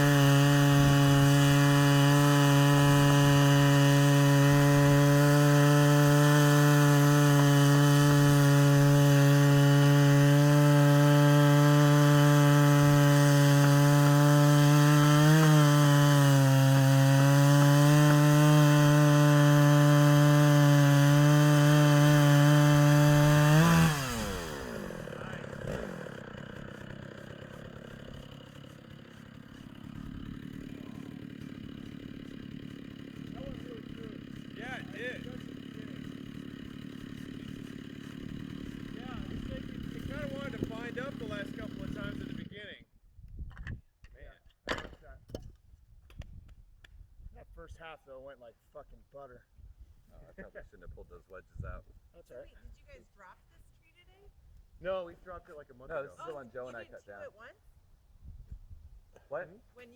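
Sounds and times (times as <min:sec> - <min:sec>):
chainsaw cutting wood: 0:00.0 - 0:43.8, 0:44.5 - 0:47.0, 0:50.4 - 0:59.9.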